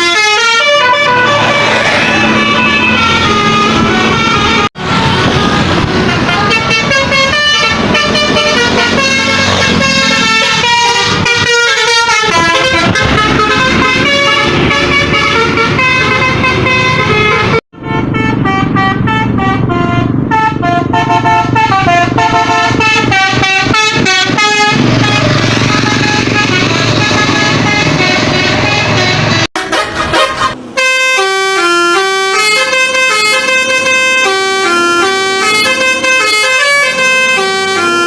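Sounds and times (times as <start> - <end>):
bus engine rumbling: 0.0 - 38.0
multi-tone bus horn tune: 0.0 - 38.0.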